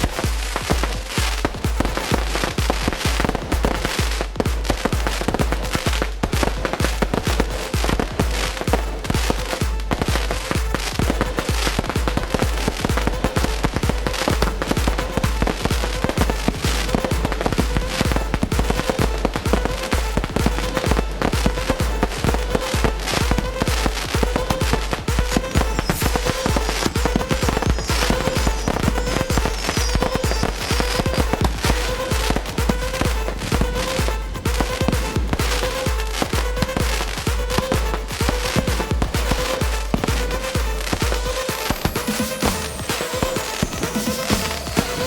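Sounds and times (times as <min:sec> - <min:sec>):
fireworks popping and crackling: 0:00.0 - 0:45.0
music with steady beat: 0:00.0 - 0:45.0.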